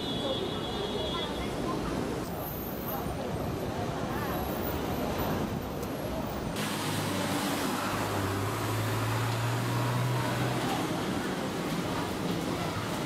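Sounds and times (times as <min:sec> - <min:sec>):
busy shop din: 0:00.0 - 0:13.0.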